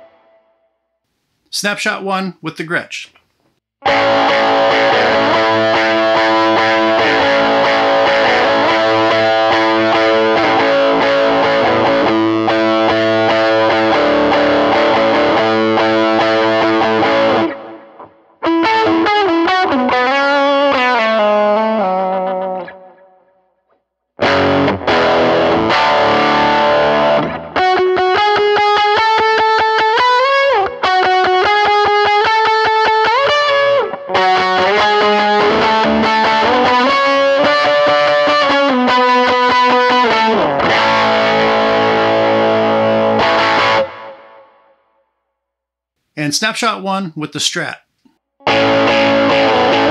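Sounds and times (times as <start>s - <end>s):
overdriven electric guitar: 0.0s - 0.5s, 3.8s - 23.5s, 24.2s - 44.7s, 48.4s - 49.9s.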